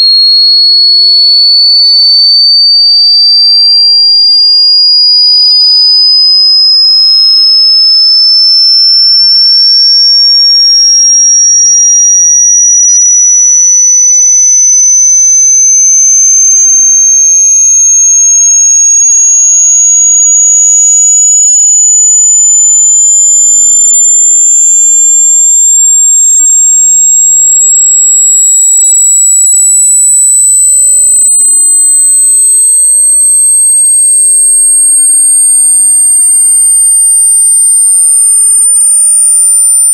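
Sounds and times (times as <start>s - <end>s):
rising sine-wave test tone: 0.0s - 39.9s.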